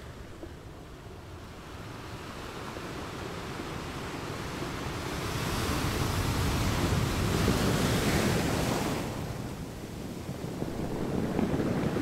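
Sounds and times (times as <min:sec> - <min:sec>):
ocean waves breaking on sand: 0:01.4 - 0:12.0.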